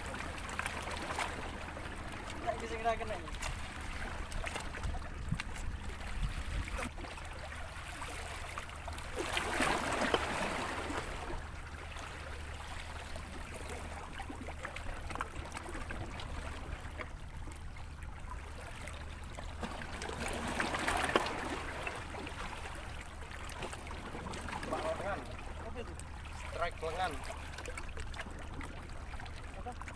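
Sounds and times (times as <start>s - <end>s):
sea water sloshing at shore: 0.0s - 29.9s.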